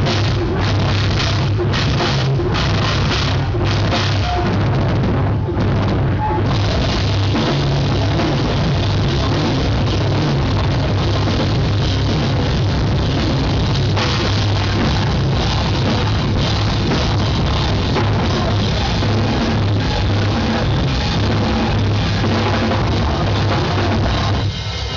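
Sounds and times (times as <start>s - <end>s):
live rock band playing: 0.0s - 24.9s
pounding drums: 0.0s - 24.9s.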